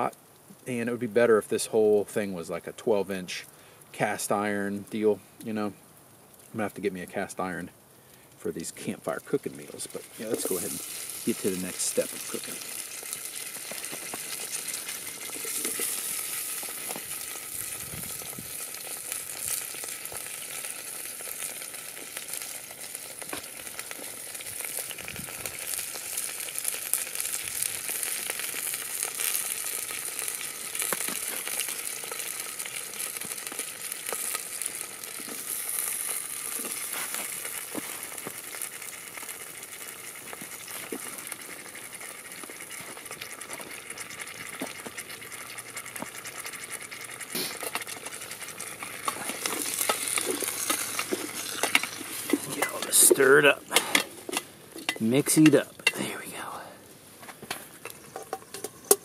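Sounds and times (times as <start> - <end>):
food sizzling in a pot: 8.4 - 59.0.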